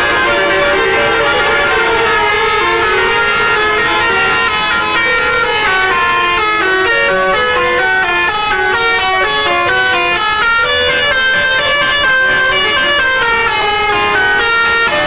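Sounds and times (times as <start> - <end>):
bus melody horn playing tune: 0.0 - 15.0.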